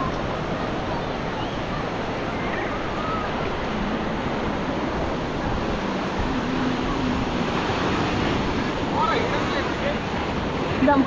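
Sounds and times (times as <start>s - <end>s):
ocean surf: 0.0s - 11.0s
wind: 0.0s - 11.0s.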